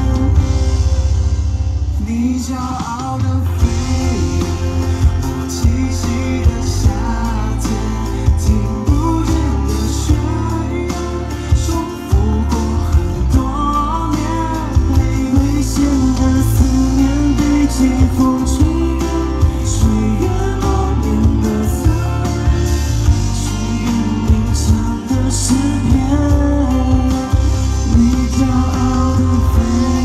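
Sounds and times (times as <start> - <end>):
live pop band playing: 0.0 - 30.0
person singing: 0.0 - 30.0.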